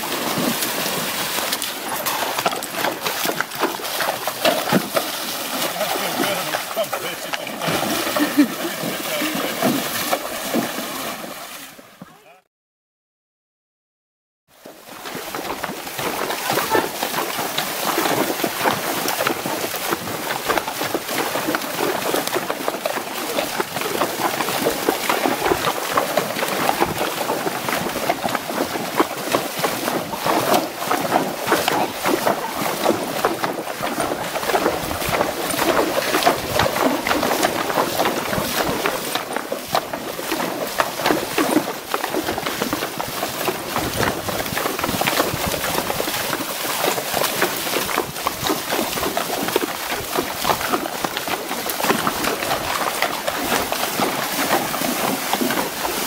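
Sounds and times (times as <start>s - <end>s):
hooves splashing in water: 0.0s - 12.3s, 14.5s - 56.0s.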